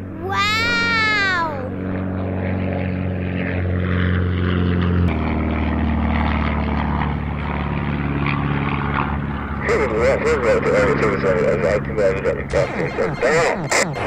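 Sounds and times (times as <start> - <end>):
propeller airplane engine droning: 0.0 - 14.0.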